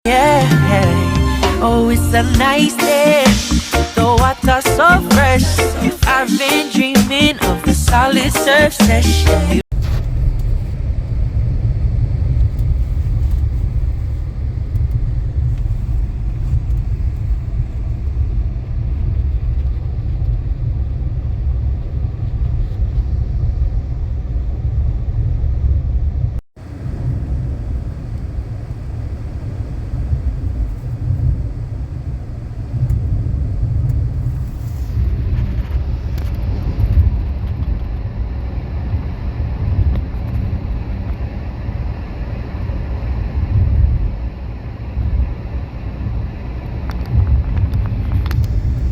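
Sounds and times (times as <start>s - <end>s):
wind buffeting microphone: 9.7s - 48.9s.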